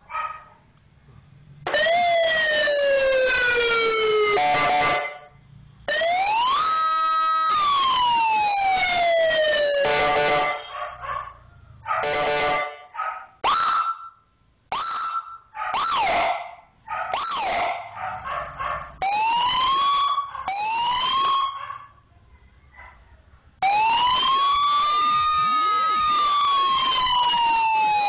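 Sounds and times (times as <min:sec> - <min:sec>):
electronic siren yelps and wails: 0:01.7 - 0:05.3, 0:05.9 - 0:18.1, 0:19.0 - 0:21.8, 0:23.6 - 0:28.0.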